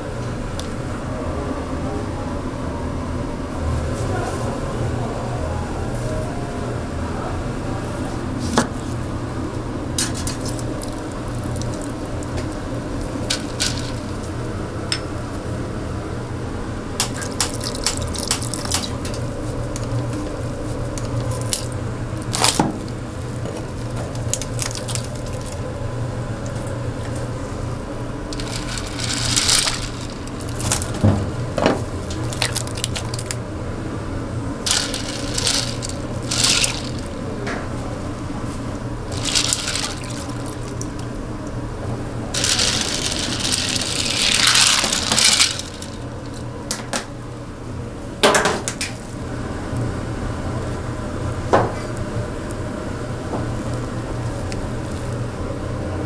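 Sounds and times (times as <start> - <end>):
steady low hum: 0.0 - 48.3.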